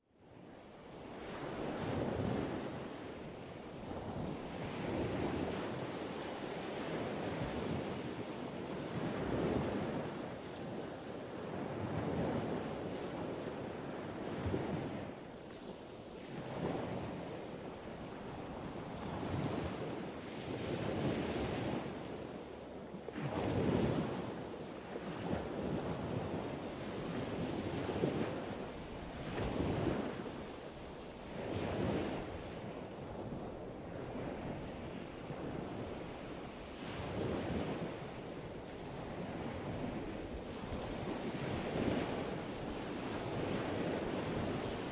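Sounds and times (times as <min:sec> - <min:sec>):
wind noise on microphone: 0:00.3 - 0:44.9.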